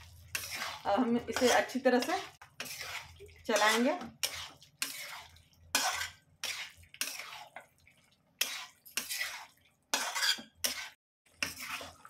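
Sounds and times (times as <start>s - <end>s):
spatula scraping a pan: 0.0s - 12.0s.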